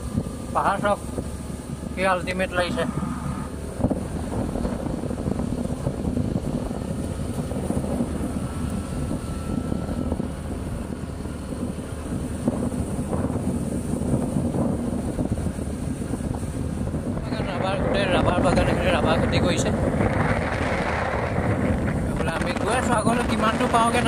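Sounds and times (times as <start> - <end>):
scooter engine droning: 0.0 - 24.0
wind noise on microphone: 2.6 - 24.0.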